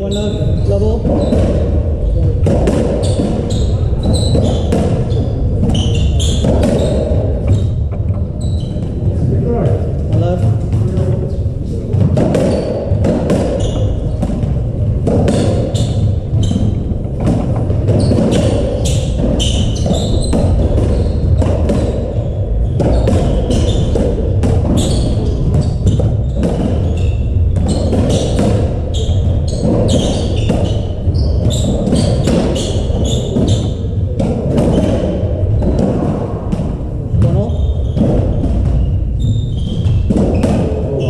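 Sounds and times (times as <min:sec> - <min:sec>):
ball striking rackets and walls: 0:00.0 - 0:41.0
low hum of hall: 0:00.0 - 0:41.0
trainers squeaking on wooden floor: 0:00.0 - 0:41.0.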